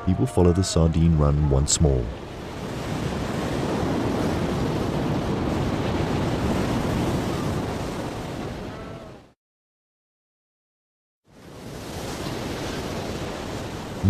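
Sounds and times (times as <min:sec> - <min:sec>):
ocean waves: 0:00.0 - 0:09.4, 0:11.3 - 0:14.0.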